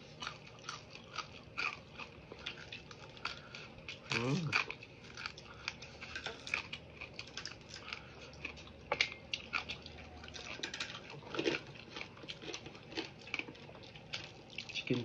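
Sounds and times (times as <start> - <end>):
chewing crispy chicken feet: 0.0 - 15.0.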